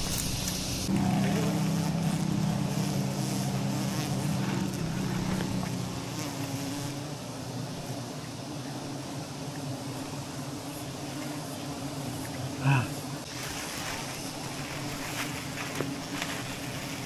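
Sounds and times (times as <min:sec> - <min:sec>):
honeybee swarm buzzing: 0:00.0 - 0:17.0.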